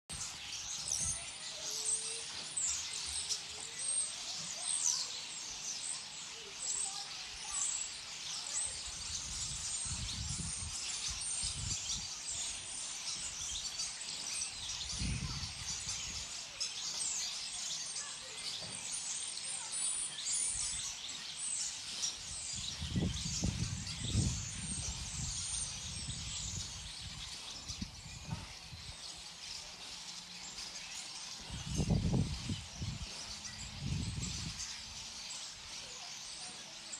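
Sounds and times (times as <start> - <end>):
flock of birds chirping: 0.0 - 36.9.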